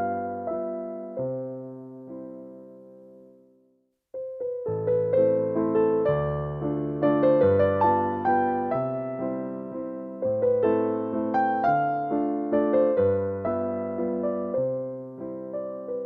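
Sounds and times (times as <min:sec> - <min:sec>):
gentle electric piano melody: 0:00.0 - 0:03.4, 0:04.2 - 0:16.0.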